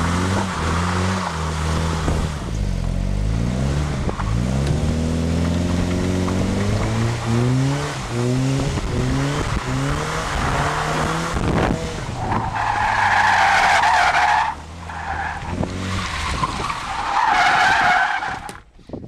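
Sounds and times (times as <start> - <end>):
car engine revving: 0.0 - 18.4.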